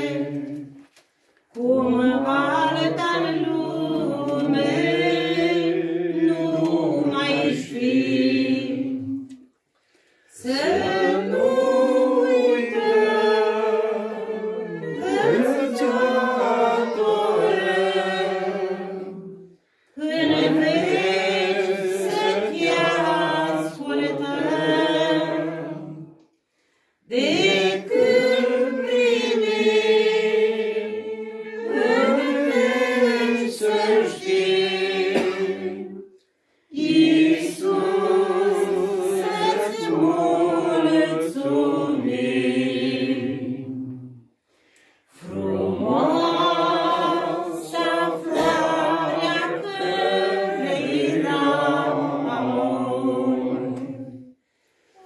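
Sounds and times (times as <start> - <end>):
group singing a hymn a cappella: 0.0 - 55.0.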